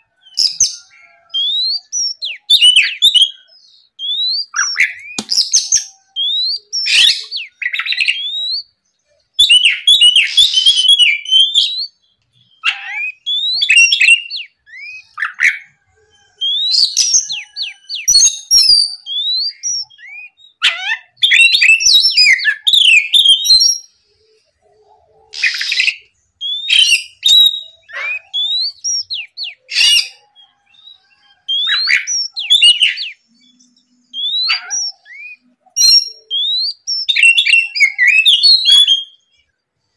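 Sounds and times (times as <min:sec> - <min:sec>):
bird singing whistled phrases: 0:00.2 - 0:24.0, 0:25.3 - 0:39.4.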